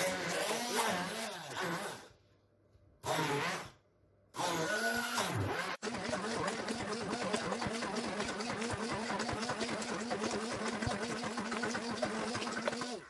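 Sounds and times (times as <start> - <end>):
stick blender motor hum: 0.0 - 2.2, 3.0 - 13.0.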